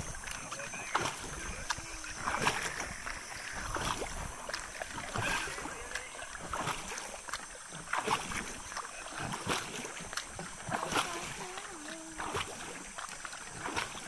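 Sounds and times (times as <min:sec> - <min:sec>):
canoe paddles splashing in water: 0:00.0 - 0:14.0.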